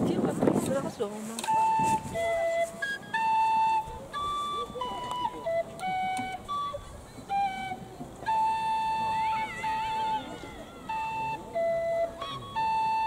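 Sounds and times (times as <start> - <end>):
wooden flute slow melody: 1.4 - 13.0.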